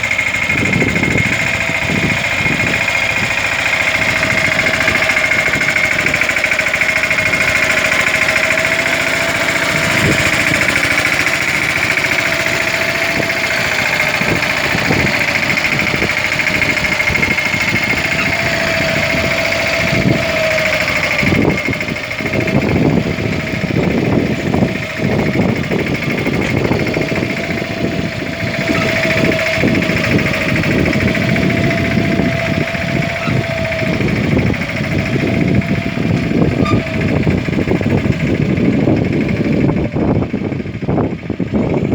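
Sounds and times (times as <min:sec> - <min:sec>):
tractor diesel engine knocking: 0:00.0 - 0:41.9.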